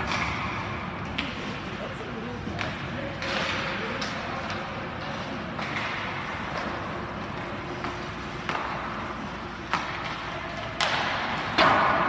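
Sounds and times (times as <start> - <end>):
sharp knocks of stick and puck: 0.0 - 1.4, 2.6 - 12.0.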